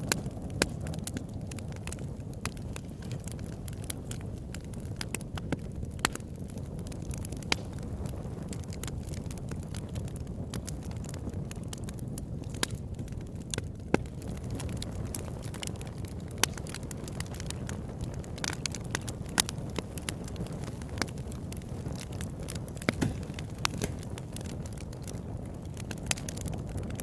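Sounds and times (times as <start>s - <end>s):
burning wood crackling and popping: 0.0s - 27.0s
low rumble of flames: 0.0s - 27.0s.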